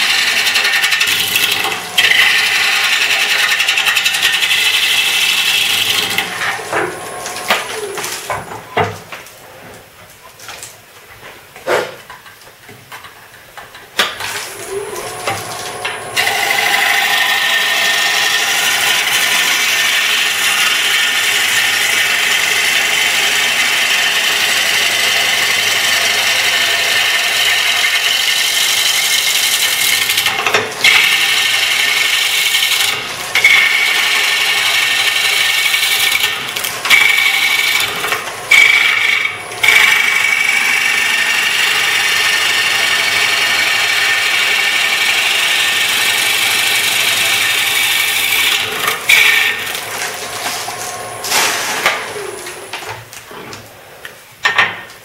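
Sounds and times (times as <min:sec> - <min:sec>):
lathe tool cutting wood: 0:00.0 - 0:08.5, 0:14.5 - 0:52.8.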